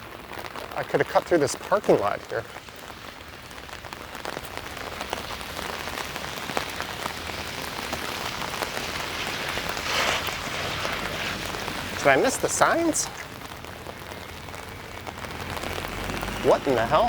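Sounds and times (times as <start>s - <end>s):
rain falling steadily: 0.0s - 17.0s
raindrops ticking close by: 0.0s - 17.0s.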